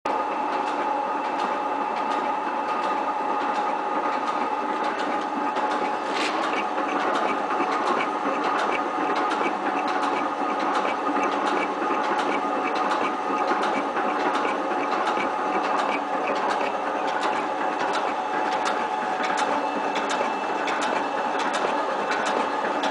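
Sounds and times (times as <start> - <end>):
regular mechanical clicking: 0.5 - 22.9.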